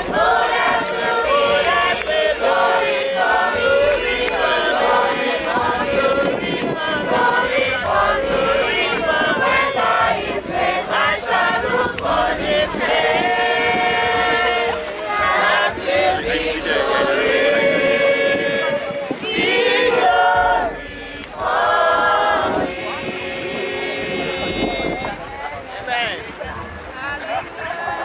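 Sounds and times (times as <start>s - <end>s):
group of voices singing: 0.0s - 25.5s.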